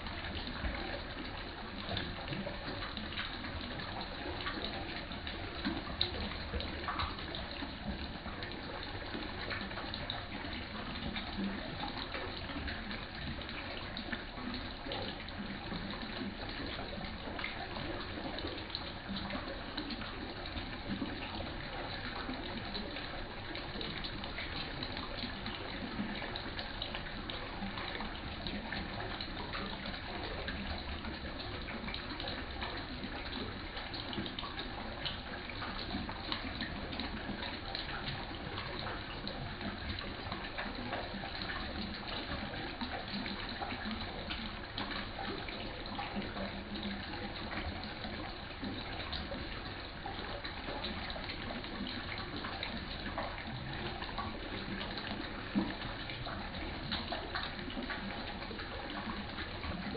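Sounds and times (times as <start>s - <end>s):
pond water splashing and trickling: 0.0s - 59.9s.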